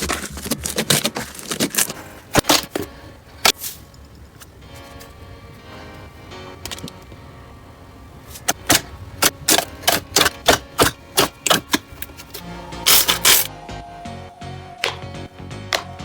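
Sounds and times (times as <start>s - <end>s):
soft background music: 0.1s - 16.0s.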